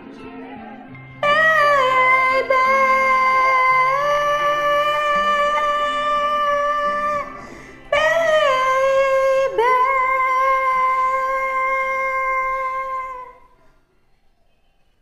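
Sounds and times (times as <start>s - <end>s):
soft karaoke backing track: 0.0s - 15.0s
woman singing long notes: 1.2s - 13.6s.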